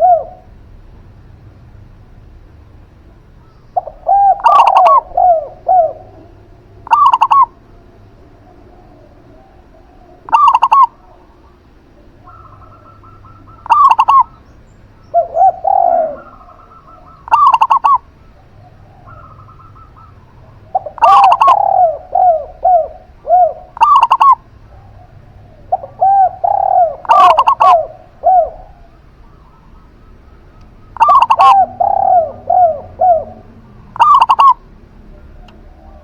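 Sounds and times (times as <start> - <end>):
higher ringing dove coos: 0.0 - 0.6, 3.8 - 36.0
lower arched dove coos: 0.0 - 0.8, 2.9 - 36.0.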